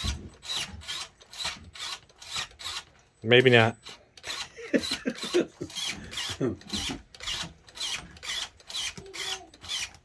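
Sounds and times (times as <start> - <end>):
toy car drivetrain grinding: 0.0 - 10.0.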